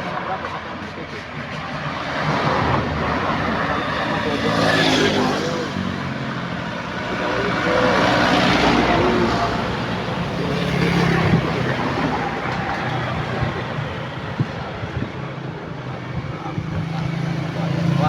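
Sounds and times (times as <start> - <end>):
faint voices: 0.0 - 18.0
road traffic noise: 0.0 - 18.0
vehicle engines running: 0.0 - 18.0.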